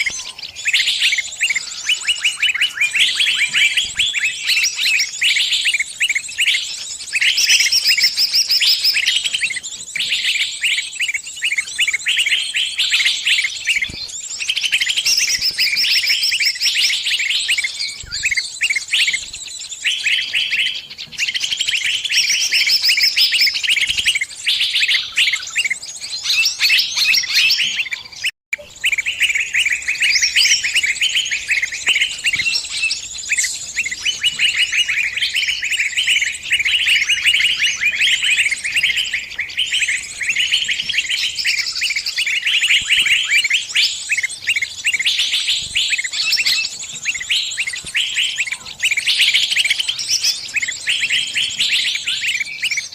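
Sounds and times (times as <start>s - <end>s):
bird distress calls: 0.0s - 52.9s.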